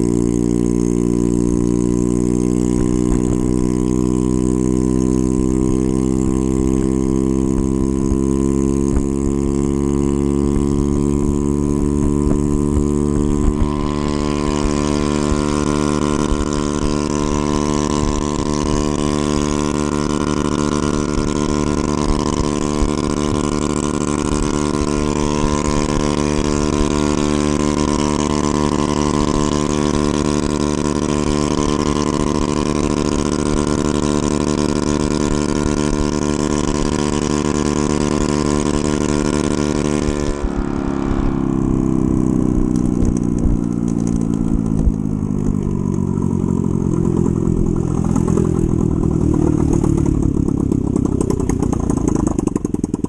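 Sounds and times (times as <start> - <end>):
scooter engine running: 0.0 - 53.0.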